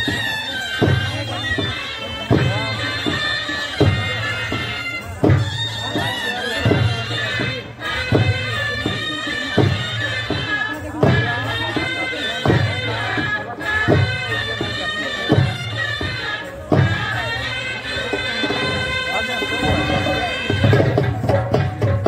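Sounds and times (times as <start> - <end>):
shehnai reedy melody: 0.0 - 22.0.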